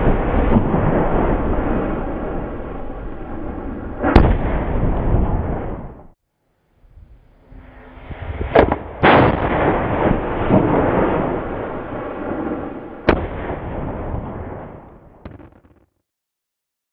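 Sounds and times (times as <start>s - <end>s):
rolling rumble of echo: 0.0s - 6.2s, 6.9s - 15.4s.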